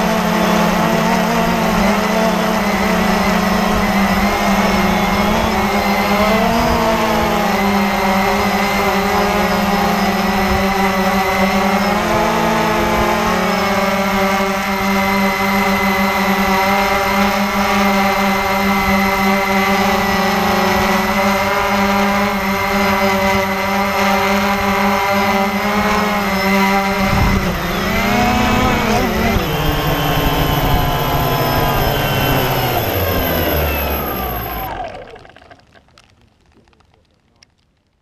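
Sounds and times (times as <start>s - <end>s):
drone motors humming: 0.0s - 35.6s.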